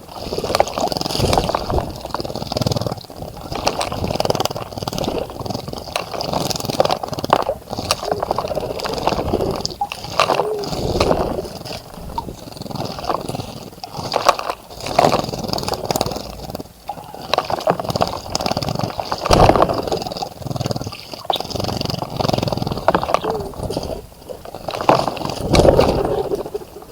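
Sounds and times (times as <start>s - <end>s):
water splashing in a birdbath: 0.0s - 16.2s, 16.8s - 26.9s.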